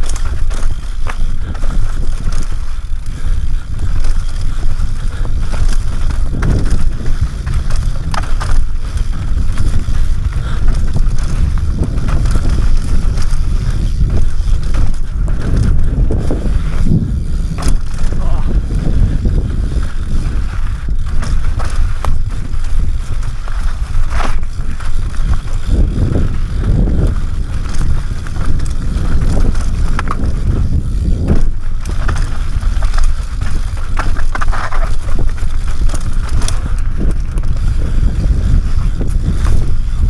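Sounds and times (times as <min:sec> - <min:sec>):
bike knocks and rattles: 0:00.0 - 0:40.0
wind and tyres rumbling on dirt: 0:00.0 - 0:40.0.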